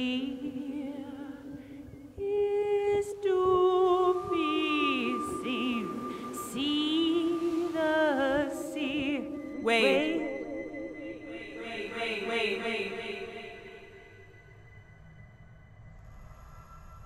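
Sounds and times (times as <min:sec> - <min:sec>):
wordless singing with vibrato: 0:00.0 - 0:14.8.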